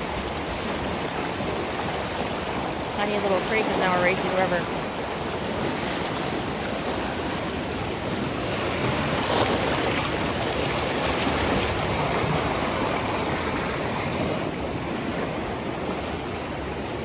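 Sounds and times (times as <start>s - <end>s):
creek in flood rushing: 0.0s - 17.0s.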